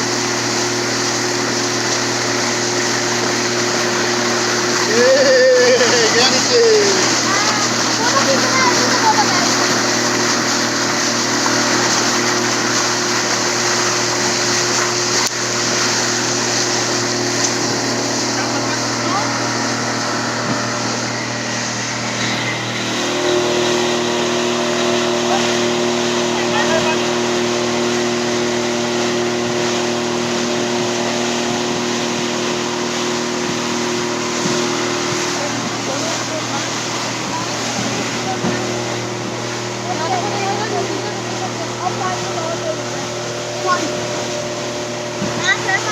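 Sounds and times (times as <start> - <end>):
motorboat engine running: 0.0 - 45.9
water rushing: 0.0 - 45.9.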